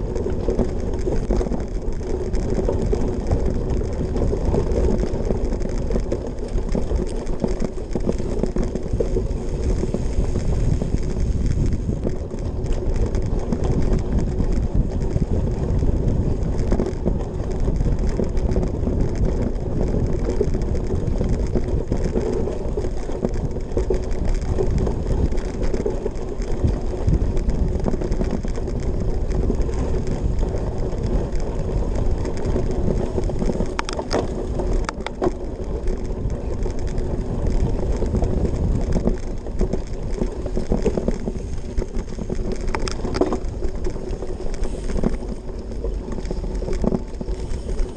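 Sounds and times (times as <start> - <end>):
bike tyres rumbling and rattling: 0.0 - 47.9.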